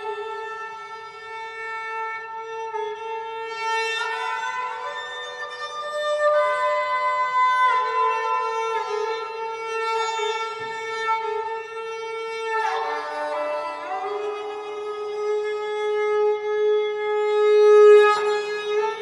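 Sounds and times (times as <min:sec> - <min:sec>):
bowed string instrument: 0:00.0 - 0:19.0.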